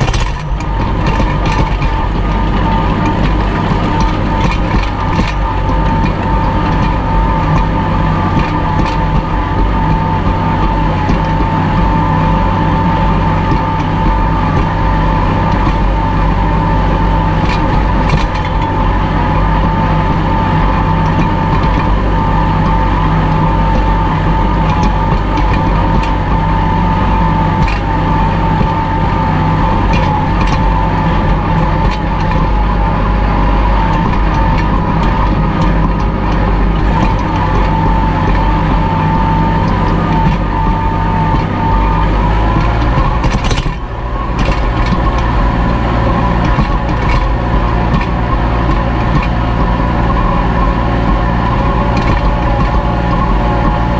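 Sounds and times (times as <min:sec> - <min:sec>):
high whine: 0:00.0 - 0:53.9
tractor diesel engine under load: 0:00.0 - 0:53.9.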